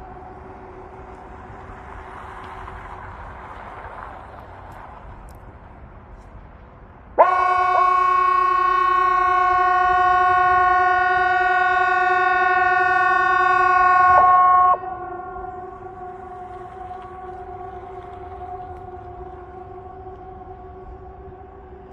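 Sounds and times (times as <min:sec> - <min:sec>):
warning siren steady blast: 0:00.0 - 0:05.2, 0:07.0 - 0:21.9.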